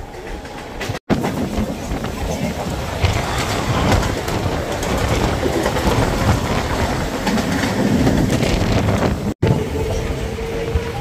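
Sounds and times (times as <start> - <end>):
clickety-clack over rail joints: 0.0 - 11.0
train wheels rumbling on rail: 0.0 - 11.0.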